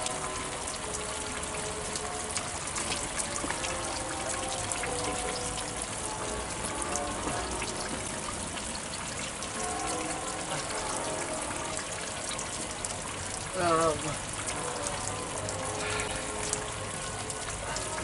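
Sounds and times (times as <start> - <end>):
running and splashing water: 0.0 - 18.0.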